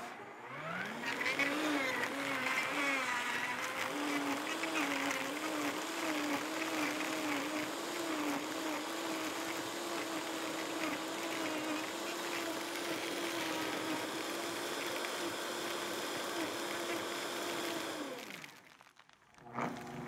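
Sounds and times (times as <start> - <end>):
blender motor hum: 0.0 - 20.0.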